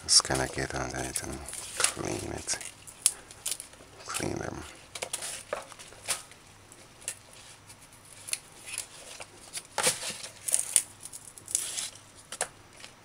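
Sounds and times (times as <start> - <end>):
leaves rustling and tearing: 0.1 - 13.0.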